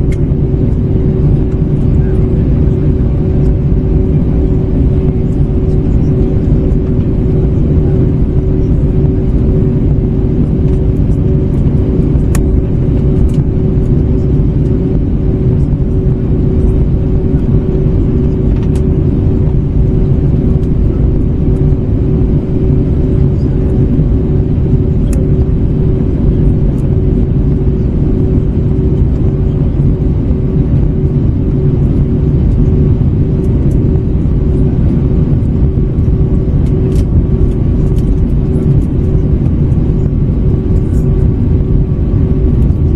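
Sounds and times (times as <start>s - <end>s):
engine and airflow rumble: 0.0s - 42.9s
steady hum: 0.0s - 42.9s.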